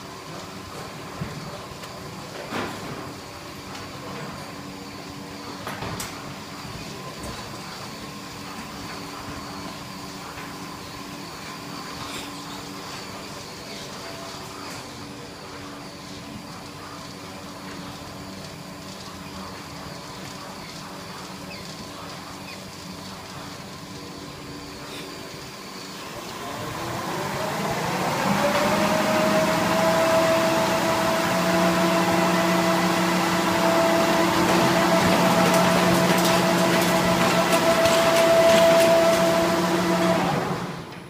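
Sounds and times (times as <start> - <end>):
machine hum and whine: 0.0 - 41.0.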